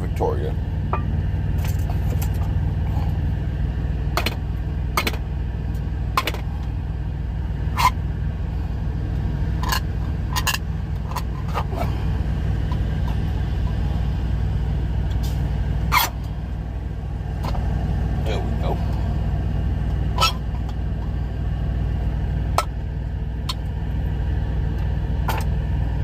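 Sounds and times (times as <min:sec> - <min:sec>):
truck idling: 0:00.0 - 0:26.0.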